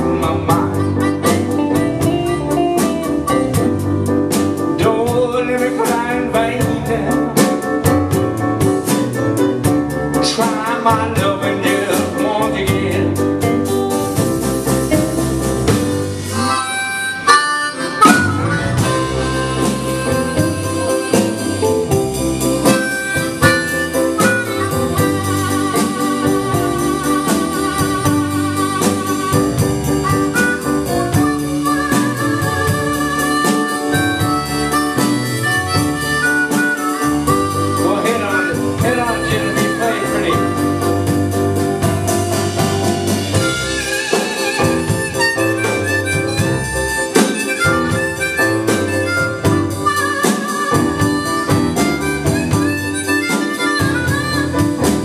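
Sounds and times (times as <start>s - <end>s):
amplified harmonica: 0.0s - 55.0s
blues band playing: 0.0s - 55.0s.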